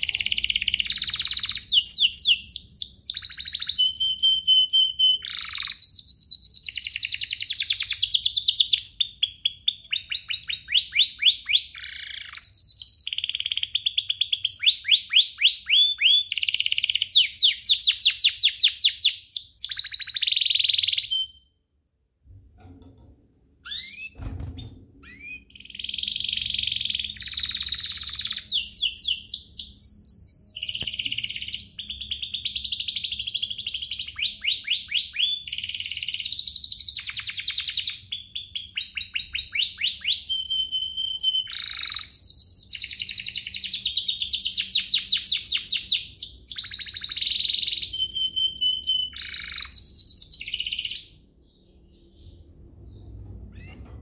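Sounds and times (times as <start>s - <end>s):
canary singing trills: 0.0s - 21.5s, 23.6s - 54.0s.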